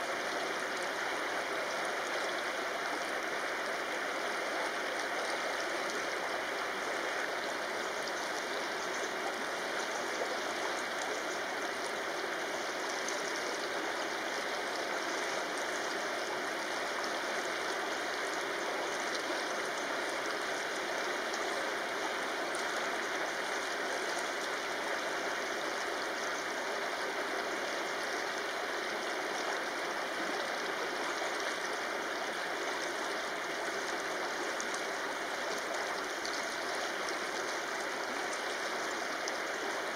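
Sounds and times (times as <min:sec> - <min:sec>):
river running over stones: 0:00.0 - 0:39.9.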